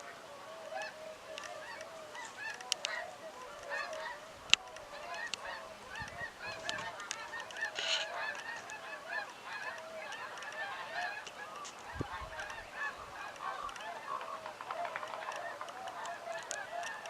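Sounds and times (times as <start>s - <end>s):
flock of birds calling: 0.0s - 17.0s.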